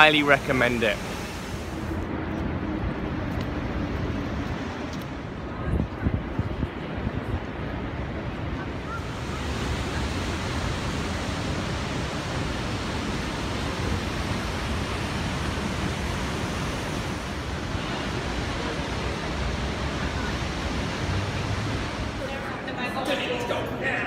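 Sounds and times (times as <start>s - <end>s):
fountain water splashing: 0.0s - 22.8s.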